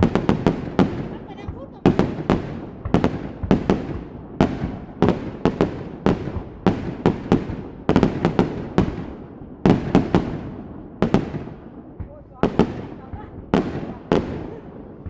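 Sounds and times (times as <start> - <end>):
fireworks bangs echoing: 0.0 - 15.0.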